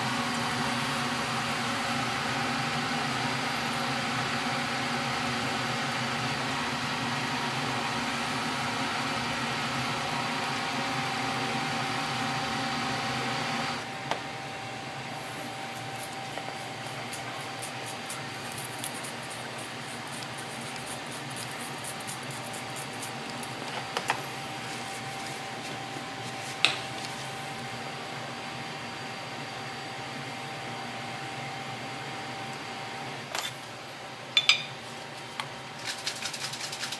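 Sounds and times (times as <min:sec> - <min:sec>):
ventilation fan humming: 0:00.0 - 0:36.9.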